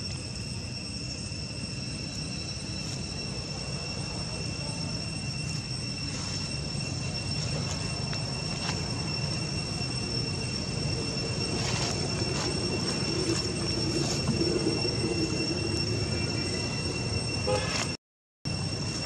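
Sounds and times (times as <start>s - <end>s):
steady high-pitched whine: 0.0s - 19.0s.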